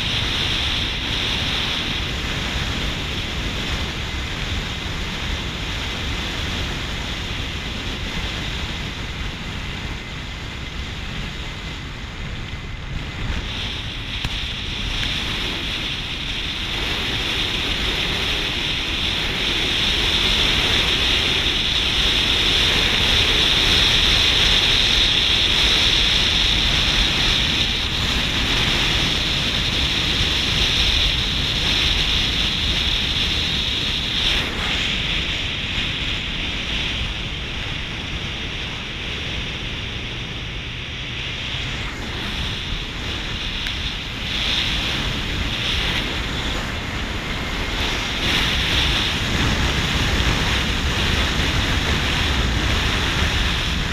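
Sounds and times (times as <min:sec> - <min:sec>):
vehicle road noise: 0:00.0 - 0:53.9
wind buffeting microphone: 0:00.0 - 0:53.9.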